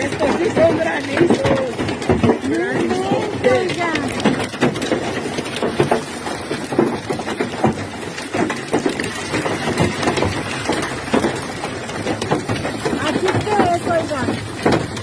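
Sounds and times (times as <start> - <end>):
hailstones pelting hard surfaces: 0.0 - 15.0.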